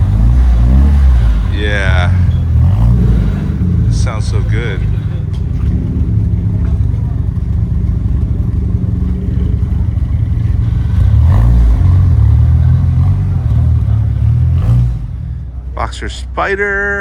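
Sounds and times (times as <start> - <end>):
car engine with deep exhaust rumble: 0.0 - 17.0.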